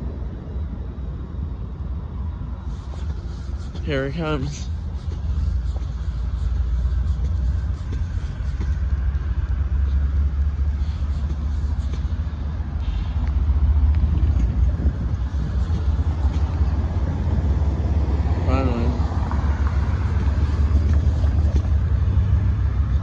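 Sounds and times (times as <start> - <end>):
freight train rumble: 0.0 - 23.0.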